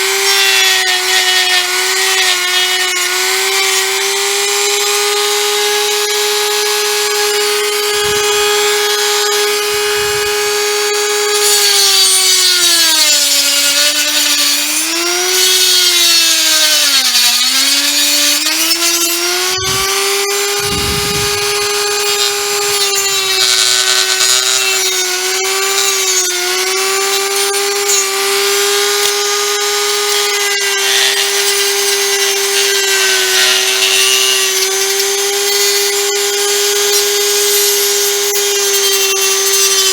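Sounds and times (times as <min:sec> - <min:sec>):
rotary tool whine: 0:00.0 - 0:39.9.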